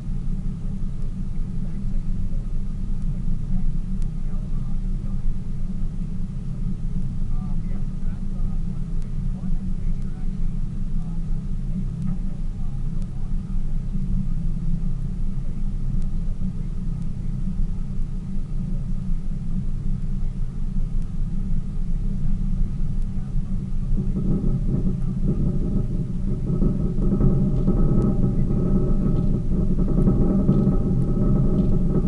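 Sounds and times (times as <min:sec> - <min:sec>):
boat engine rumbling: 0:00.0 - 0:32.0.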